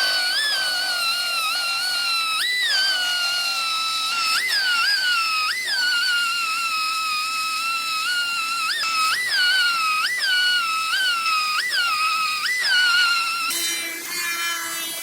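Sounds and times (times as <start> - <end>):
pneumatic grinder whining: 0.0 - 15.0.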